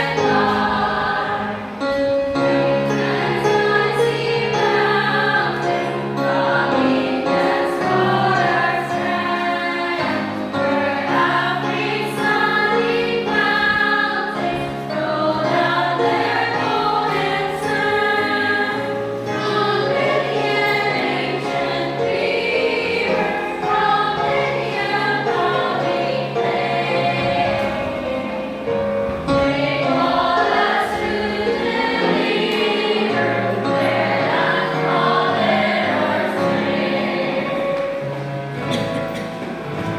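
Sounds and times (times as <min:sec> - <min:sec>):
choir singing with accompaniment: 0:00.0 - 0:39.9.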